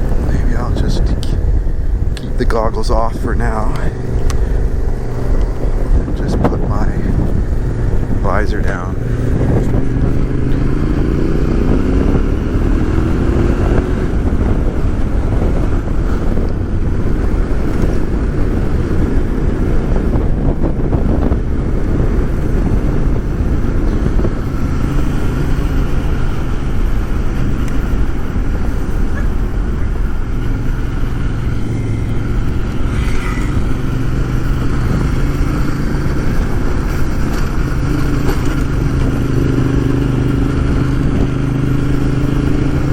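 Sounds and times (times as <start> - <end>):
motorcycle engine accelerating: 0.0 - 42.9
wind rush: 0.0 - 42.9.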